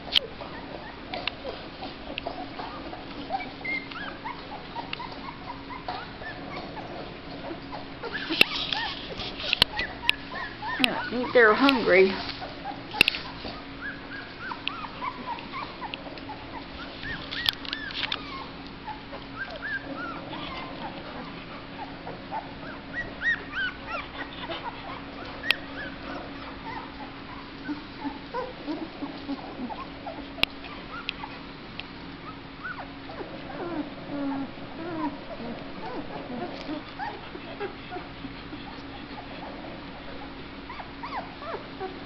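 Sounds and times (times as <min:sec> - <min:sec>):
puppies whimpering and squeaking: 0:00.0 - 0:42.0
steady low hum: 0:00.0 - 0:42.0.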